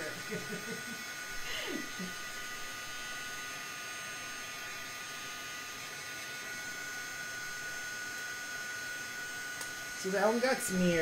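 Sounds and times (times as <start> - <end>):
heat tool fan hiss: 0.0 - 11.0.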